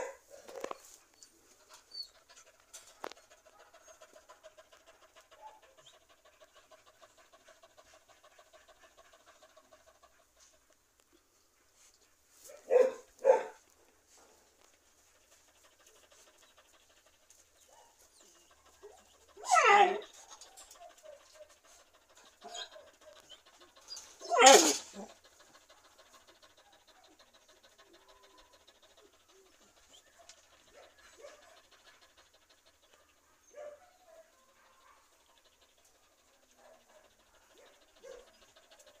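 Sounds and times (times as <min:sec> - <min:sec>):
dog panting: 0:00.0 - 0:39.0.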